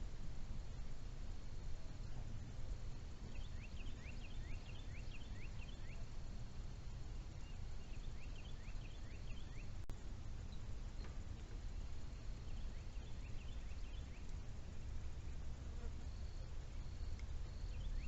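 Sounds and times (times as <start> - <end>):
steady low rumble: 0.0 - 18.0
songbird chirping: 3.1 - 18.0.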